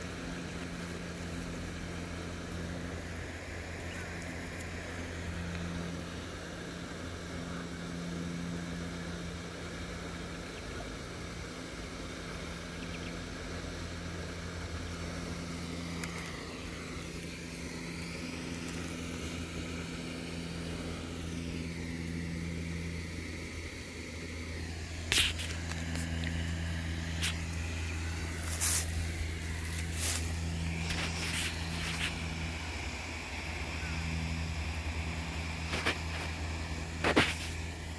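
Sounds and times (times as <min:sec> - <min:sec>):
low mechanical hum: 0:00.0 - 0:37.9.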